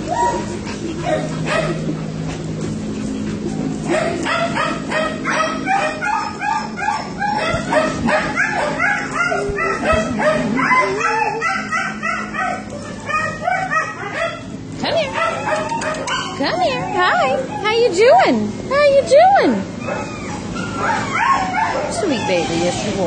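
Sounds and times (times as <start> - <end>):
dogs whining and yipping: 0.0 - 23.0.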